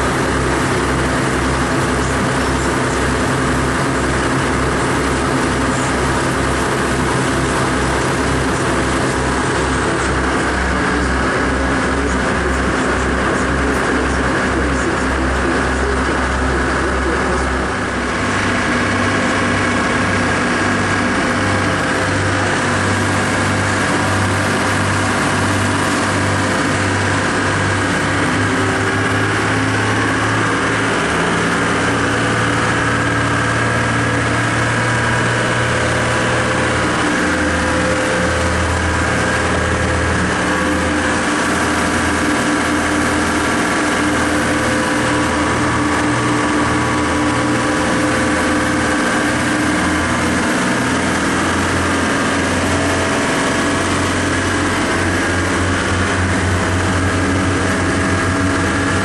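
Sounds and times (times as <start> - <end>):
boat engine droning: 0.0 - 59.0
rushing water: 0.0 - 59.0.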